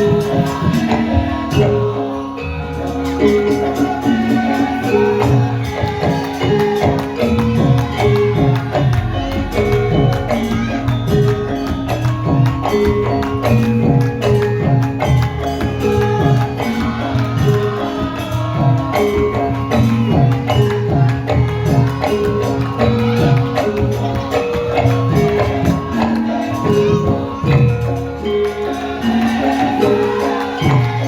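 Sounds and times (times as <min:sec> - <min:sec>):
bright metallophone notes: 0:00.0 - 0:31.0.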